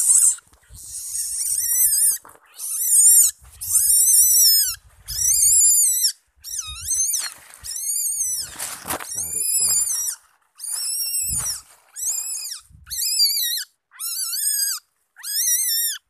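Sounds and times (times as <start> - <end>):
young civets squealing: 0.0 - 16.0.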